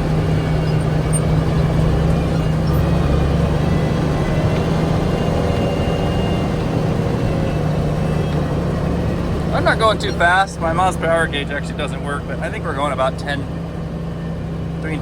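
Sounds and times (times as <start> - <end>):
gravel road rumble: 0.0 - 15.0
truck diesel engine running: 0.0 - 15.0.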